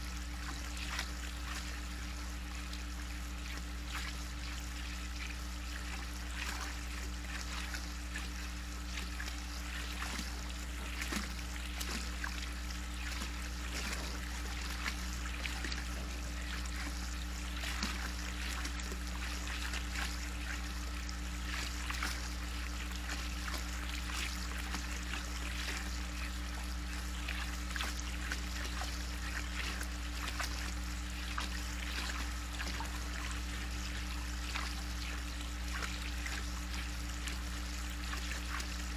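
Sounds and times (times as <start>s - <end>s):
animals splashing water: 0.0s - 38.9s
steady low hum: 0.0s - 38.9s
water trickling: 0.0s - 38.9s.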